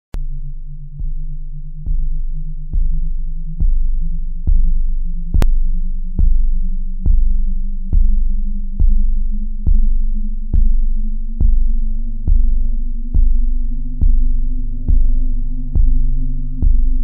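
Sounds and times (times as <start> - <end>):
deep bass pulse: 0.1 - 17.0
low synth drone: 0.2 - 17.0.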